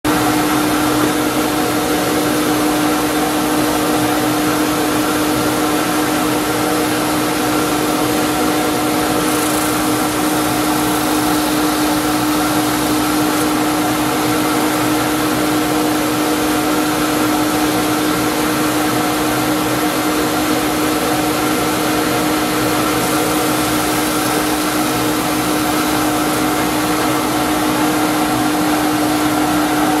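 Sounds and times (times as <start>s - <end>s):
shop vacuum running: 0.1s - 30.0s
drill press boring wood: 2.0s - 27.9s.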